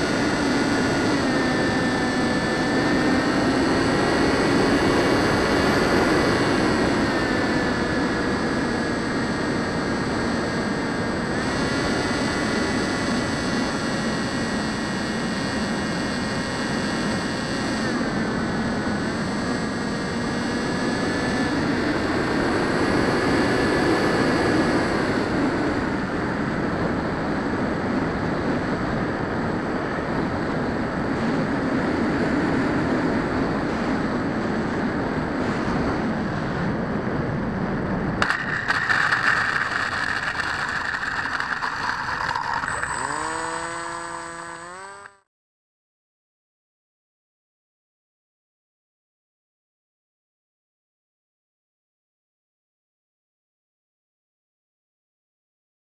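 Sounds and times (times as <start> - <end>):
model plane motor and propeller drone: 0.0 - 45.3.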